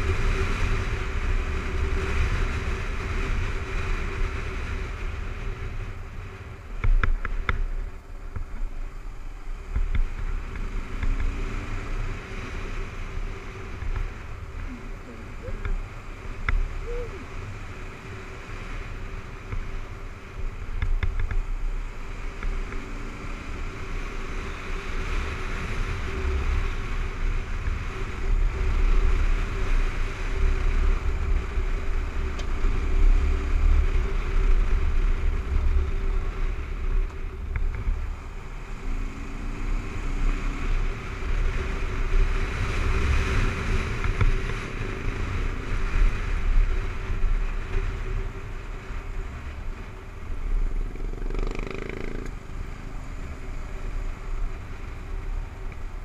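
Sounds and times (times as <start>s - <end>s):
motorcycle engine running: 0.0s - 56.0s
wind rumble on microphone: 0.0s - 56.0s.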